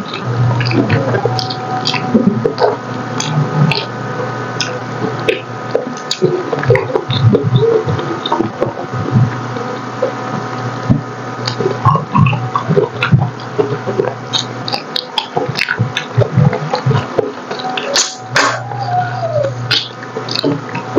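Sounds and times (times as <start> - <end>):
steady low hum: 0.0 - 20.9
wet chewing and mouth smacking: 0.1 - 20.9.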